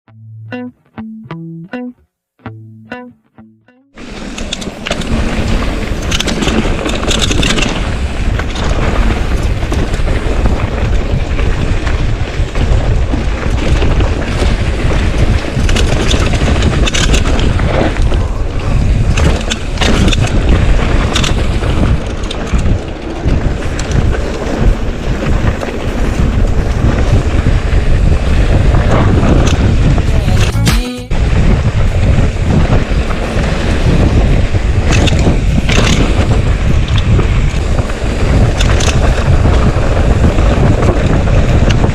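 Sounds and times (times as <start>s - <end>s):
bike knocking and rattling: 4.0s - 30.0s, 31.4s - 41.9s
wind buffeting microphone: 4.2s - 30.5s, 31.1s - 41.9s.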